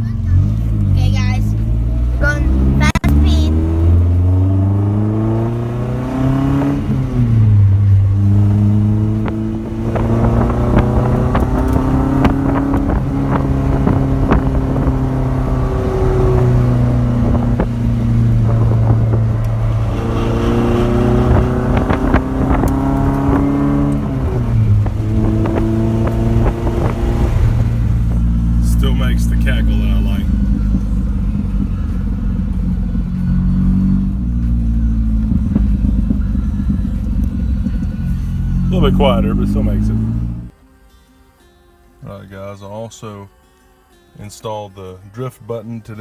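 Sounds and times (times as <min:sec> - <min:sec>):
car engine accelerating: 0:00.0 - 0:40.5
exhaust crackling: 0:00.0 - 0:40.5.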